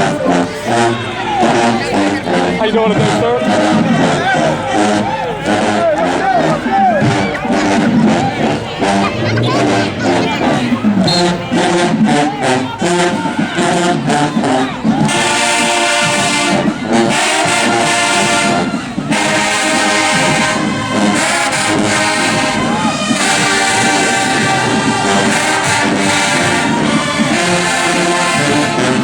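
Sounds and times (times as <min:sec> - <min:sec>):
marching band brass playing: 0:00.0 - 0:29.0.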